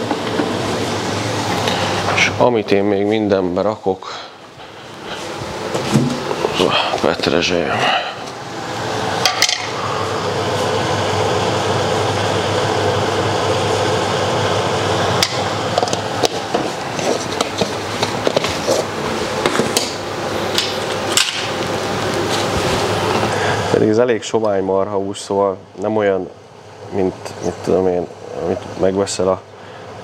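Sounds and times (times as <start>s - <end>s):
fan-like whir with low hum: 0.0s - 30.0s.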